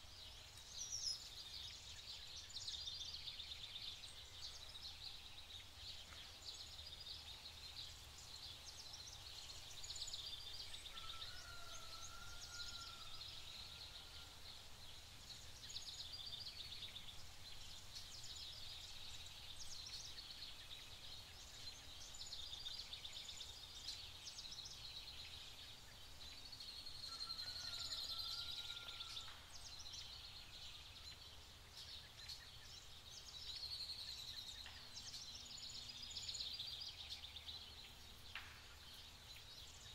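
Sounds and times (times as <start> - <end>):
birds chirping and ticking: 0.0 - 39.9.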